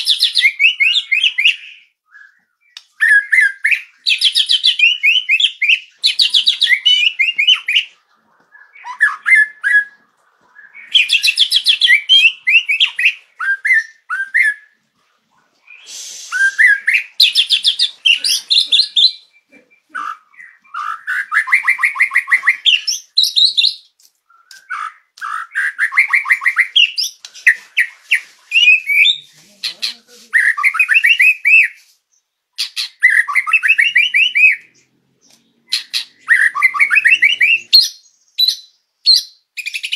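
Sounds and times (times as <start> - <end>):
songbird trills and whistles: 0.0 - 14.8, 15.6 - 39.9.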